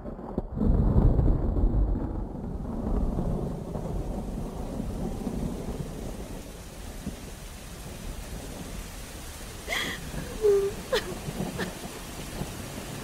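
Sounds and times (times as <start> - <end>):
steady rain: 0.0 - 13.0
thunder rumbling: 0.0 - 13.0.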